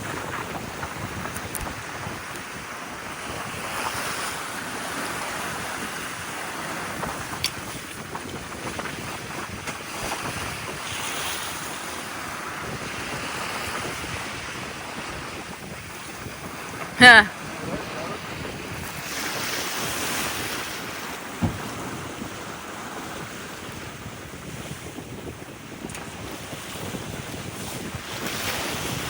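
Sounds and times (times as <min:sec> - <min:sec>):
sea water washing around boat: 0:00.0 - 0:29.0
wind buffeting microphone: 0:00.0 - 0:29.0.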